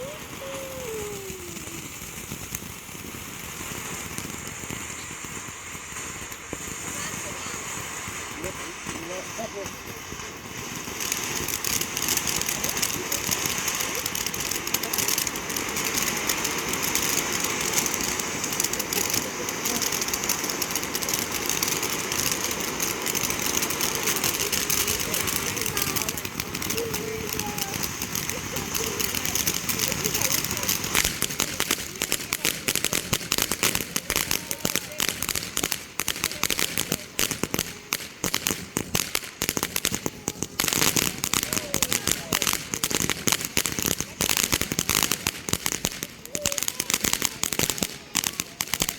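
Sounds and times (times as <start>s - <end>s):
ground firework hissing and crackling: 0.0s - 48.9s.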